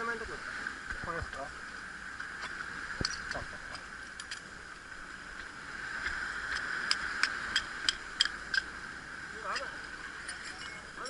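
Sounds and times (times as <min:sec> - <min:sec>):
sea and wind hiss: 0:00.0 - 0:11.0.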